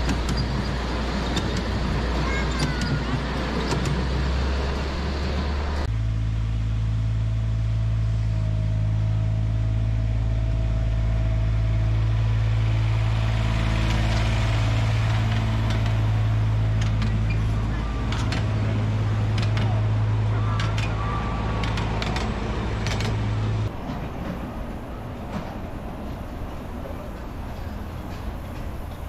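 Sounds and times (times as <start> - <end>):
low locomotive motor hum: 0.0 - 29.0
miniature train cars rumbling: 0.0 - 29.0.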